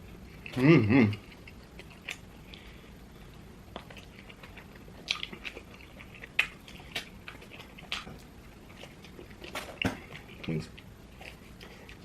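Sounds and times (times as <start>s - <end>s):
person chewing with mouth open: 0.0s - 12.0s.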